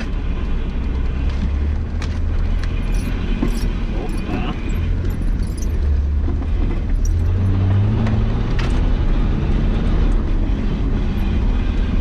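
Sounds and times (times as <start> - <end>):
car engine pulling under load: 0.0 - 12.0.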